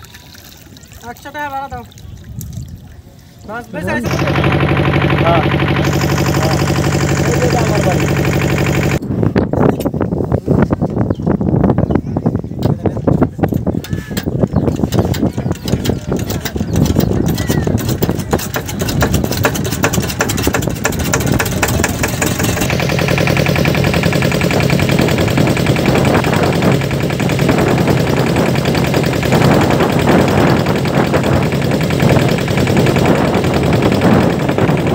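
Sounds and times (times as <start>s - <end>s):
boat engine running: 0.0s - 9.2s, 12.8s - 34.9s.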